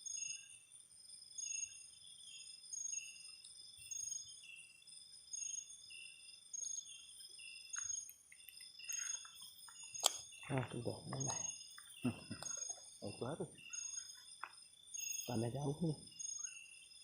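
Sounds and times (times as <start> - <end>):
high-pitched insect trills: 0.0 - 17.0
short insect call: 0.0 - 17.0.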